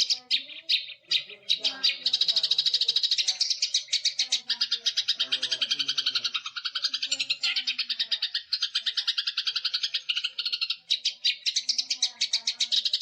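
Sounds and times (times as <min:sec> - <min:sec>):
songbird chirping rapidly: 0:00.0 - 0:13.0.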